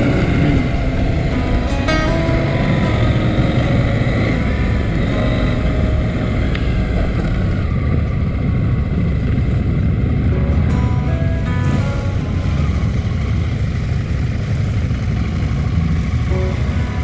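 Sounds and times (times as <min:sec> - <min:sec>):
faint music notes: 0:00.0 - 0:17.0
low rumble: 0:00.0 - 0:17.0.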